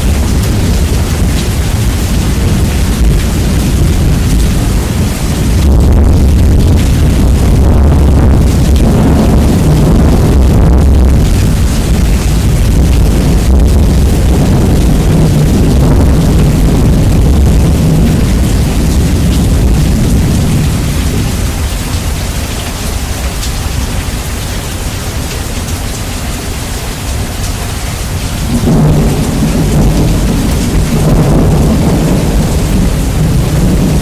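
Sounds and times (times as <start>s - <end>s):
thunder rumble: 0.0s - 25.7s, 27.1s - 34.0s
steady rain: 0.0s - 34.0s.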